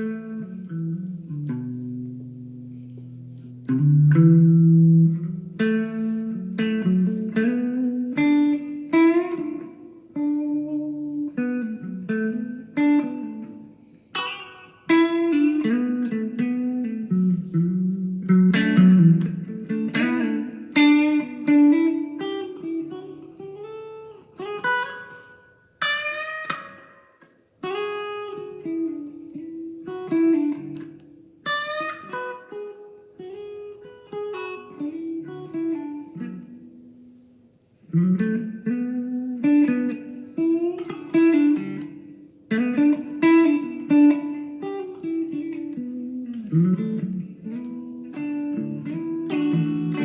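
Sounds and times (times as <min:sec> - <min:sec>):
solo guitar picking: 0:00.0 - 0:50.0.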